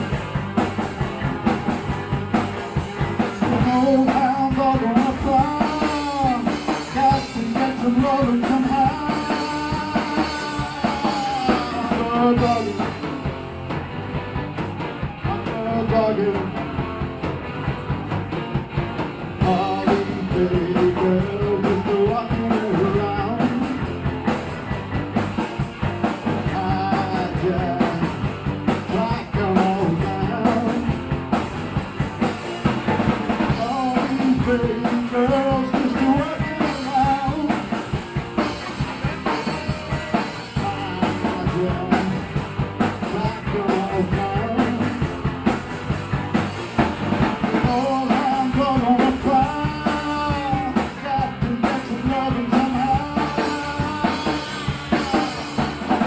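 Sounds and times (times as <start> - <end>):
drum kit steady beat: 0.0 - 56.0
electric guitars: 0.0 - 56.0.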